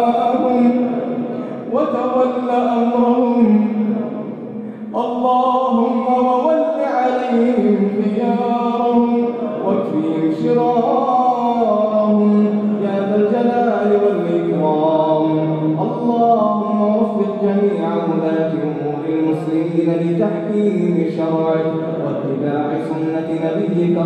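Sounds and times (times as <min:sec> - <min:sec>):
man chanting melodically: 0:00.0 - 0:24.0.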